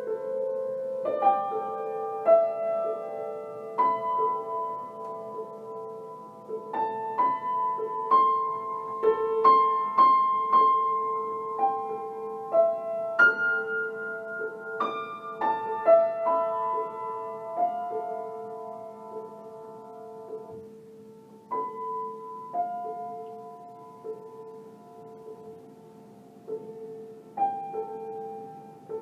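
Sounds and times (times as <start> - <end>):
solo piano notes: 0.0 - 29.0.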